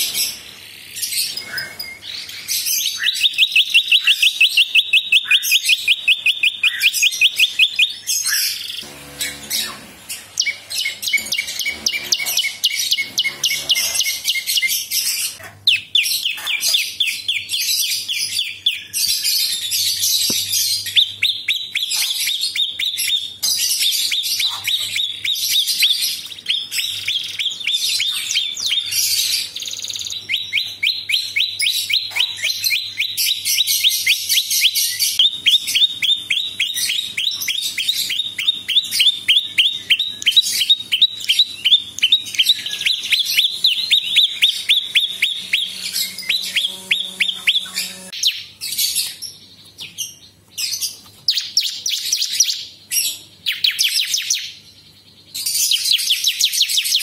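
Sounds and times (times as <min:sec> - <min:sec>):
bird singing rapid sharp notes: 0:00.0 - 0:57.0.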